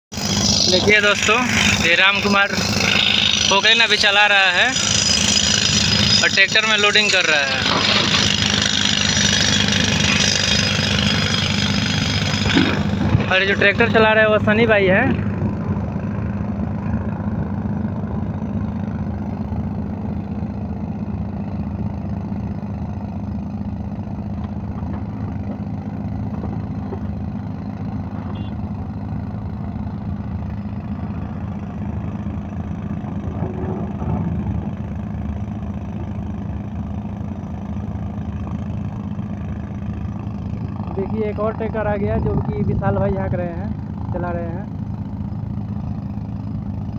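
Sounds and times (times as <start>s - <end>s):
diesel engines running: 0.1s - 46.9s.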